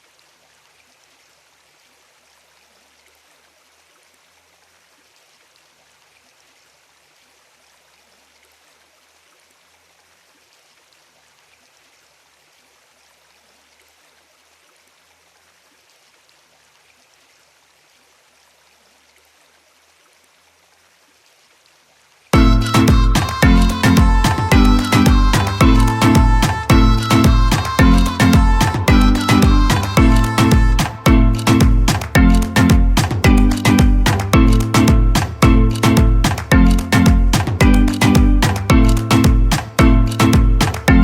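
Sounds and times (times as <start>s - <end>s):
running water hiss: 0.0s - 40.9s.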